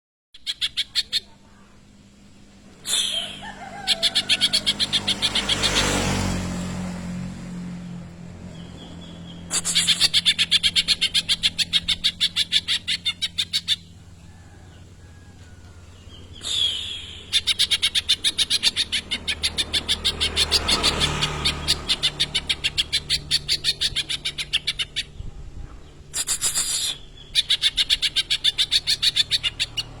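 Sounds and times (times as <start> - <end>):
bird singing harsh repeated notes: 0.3 - 1.5, 2.8 - 6.6, 7.5 - 14.0, 15.9 - 30.0.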